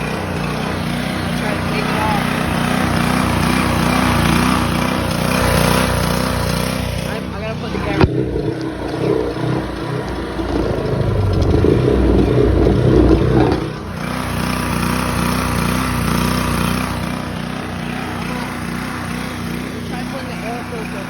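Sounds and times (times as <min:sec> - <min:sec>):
generator engine running unevenly: 0:00.0 - 0:21.0.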